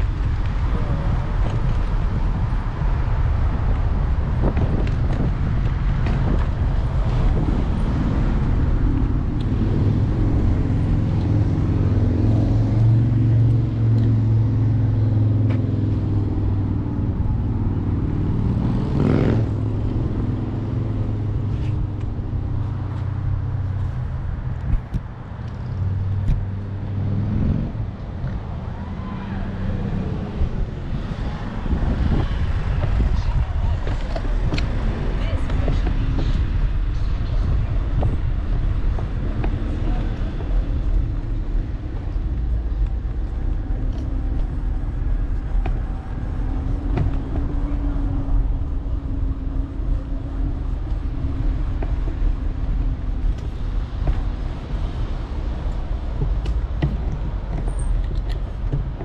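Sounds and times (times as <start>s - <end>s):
wind buffeting: 0.0s - 59.0s.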